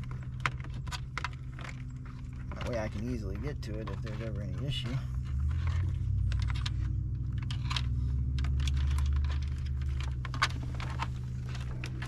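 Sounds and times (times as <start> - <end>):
cables rustling: 0.0 - 12.0
steady low hum: 0.0 - 12.0.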